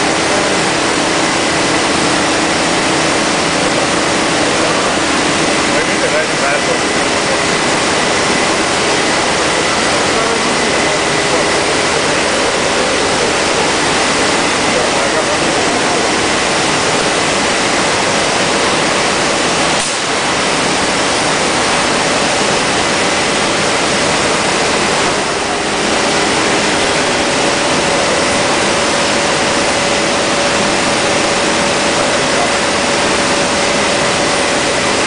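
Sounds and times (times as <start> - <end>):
machine and dust extraction rush: 0.0 - 35.0.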